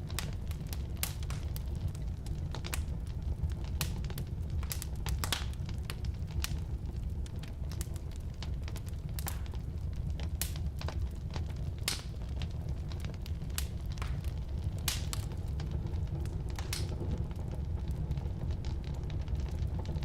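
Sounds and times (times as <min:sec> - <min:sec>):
firewood crackling and popping: 0:00.0 - 0:20.0
low rumble of flames: 0:00.0 - 0:20.0.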